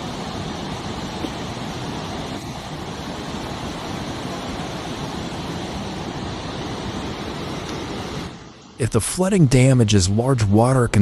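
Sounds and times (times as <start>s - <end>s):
river floodwater rushing: 0.0s - 11.0s.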